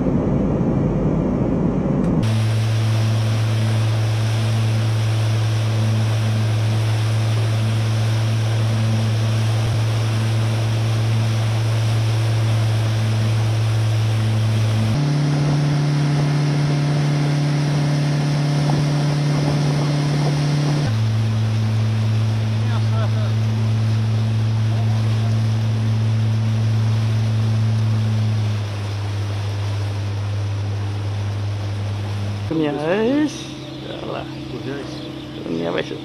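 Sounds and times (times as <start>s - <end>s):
motorboat engine drone: 0.0s - 36.0s
wind: 0.0s - 36.0s
water rushing: 2.2s - 36.0s.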